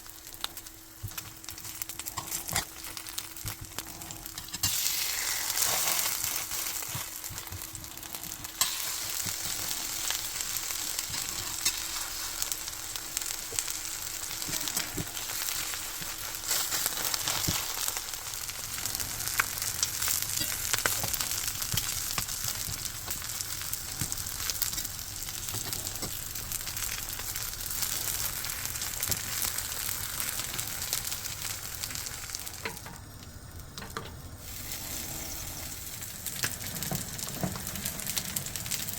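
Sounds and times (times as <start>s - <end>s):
food sizzling in oil: 0.0s - 38.9s
oil crackling and popping: 0.0s - 38.9s.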